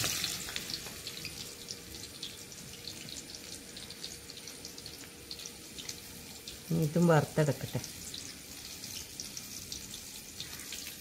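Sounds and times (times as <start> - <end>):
hot oil crackling and sizzling: 0.0 - 11.0.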